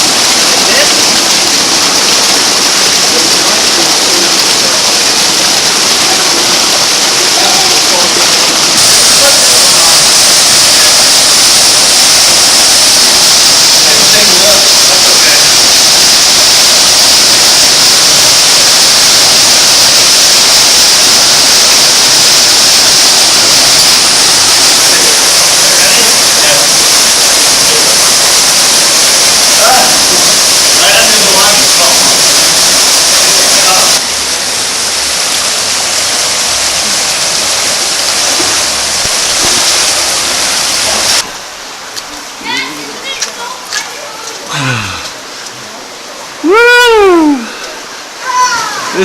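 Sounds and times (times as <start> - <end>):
rush of falling water: 0.0 - 49.0.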